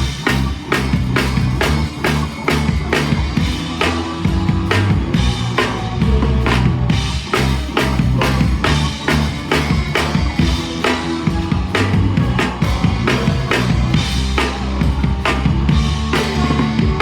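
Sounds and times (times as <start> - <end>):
live punk rock band: 0.0 - 17.0.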